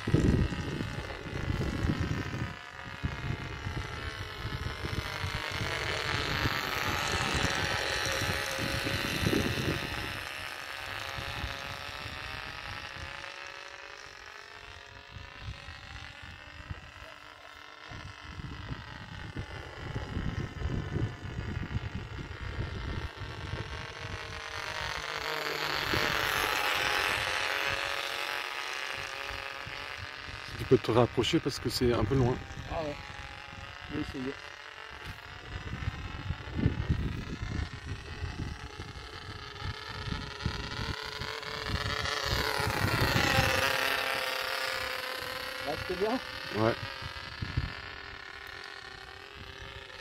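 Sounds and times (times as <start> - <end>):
model plane engine buzzing: 0.0 - 50.0.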